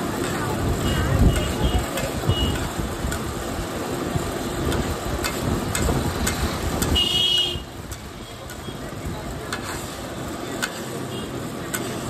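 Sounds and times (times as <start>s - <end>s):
gravy bubbling and sizzling: 0.0s - 12.0s
metal spatula scraping griddle: 0.1s - 3.8s, 4.4s - 7.2s, 7.8s - 12.0s.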